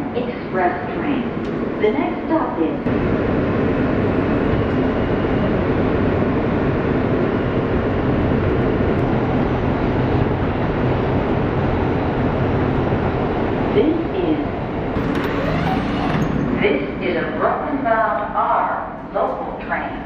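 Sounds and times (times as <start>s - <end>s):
subway car rumble: 0.0s - 20.0s.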